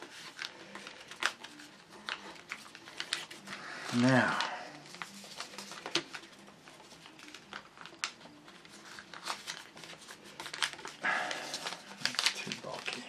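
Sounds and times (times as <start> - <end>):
paper rustling and crinkling: 0.0 - 13.0
sharp paper crackles: 0.0 - 13.0.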